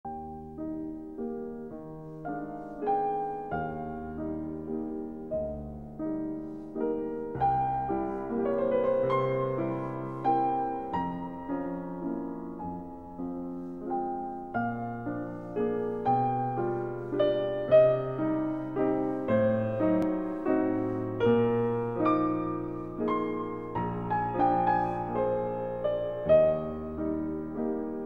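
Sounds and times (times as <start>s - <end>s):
slow gentle piano piece: 0.0s - 28.0s.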